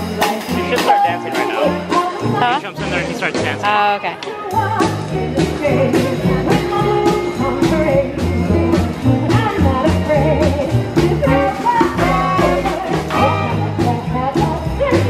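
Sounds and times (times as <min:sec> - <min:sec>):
bass line: 0:00.0 - 0:15.0
steady drum beat: 0:00.0 - 0:15.0
upbeat music with singer: 0:00.0 - 0:15.0.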